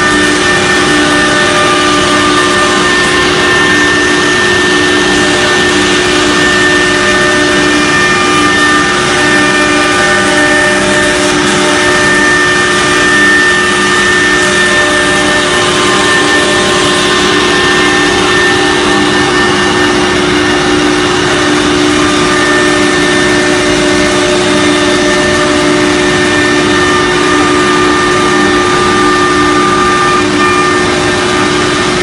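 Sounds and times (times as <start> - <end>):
router spindle whine: 0.0 - 32.0.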